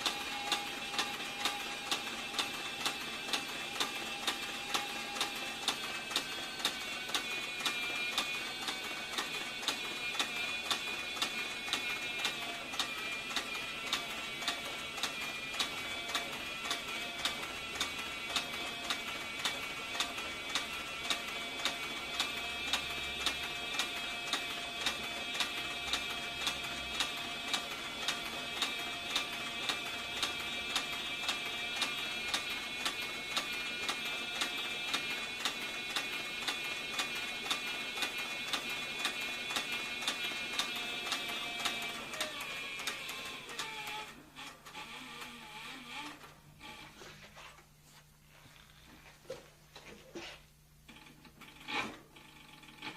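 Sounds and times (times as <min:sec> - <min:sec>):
sewing machine motor whine: 0:00.0 - 0:47.6, 0:50.9 - 0:52.9.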